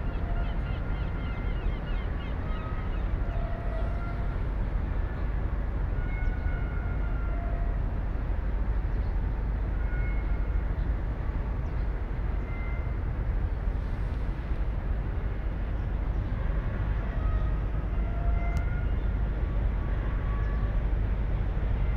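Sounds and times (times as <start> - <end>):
outdoor background rumble and hiss: 0.0 - 21.9.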